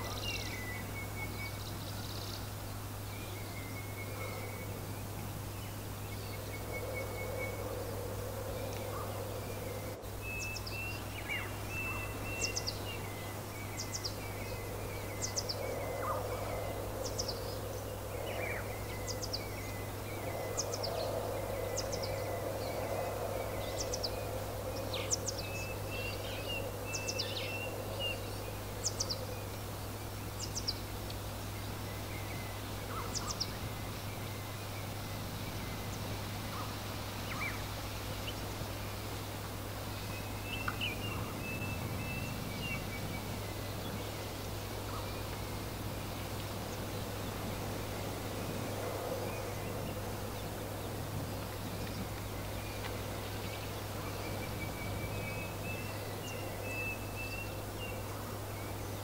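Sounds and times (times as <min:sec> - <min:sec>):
songbirds chirping: 0:00.0 - 0:59.0
wind noise: 0:04.2 - 0:56.7.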